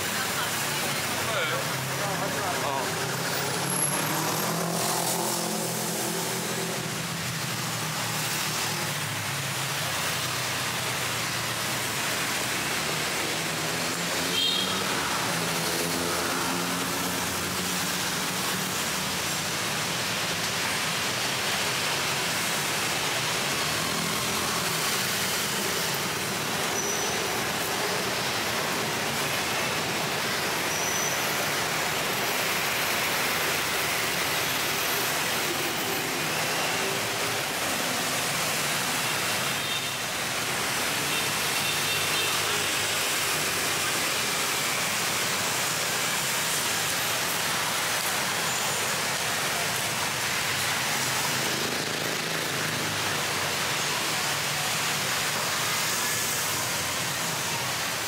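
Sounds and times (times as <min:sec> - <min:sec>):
busy road traffic: 0:00.0 - 0:58.0.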